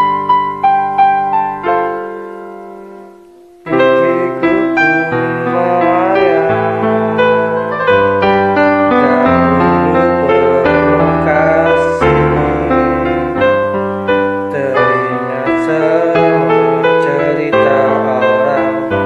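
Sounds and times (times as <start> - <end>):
pop ballad on keyboard: 3.7 - 19.0.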